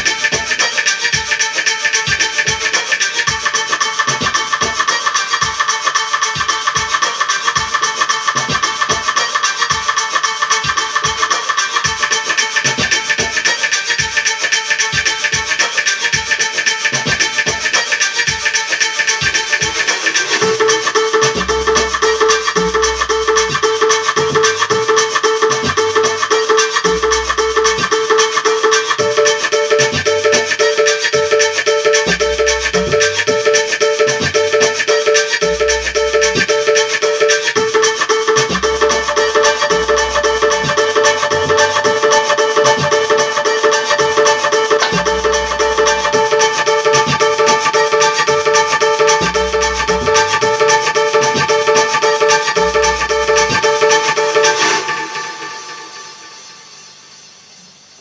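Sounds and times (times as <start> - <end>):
instrumental electronic music: 0.0 - 57.0.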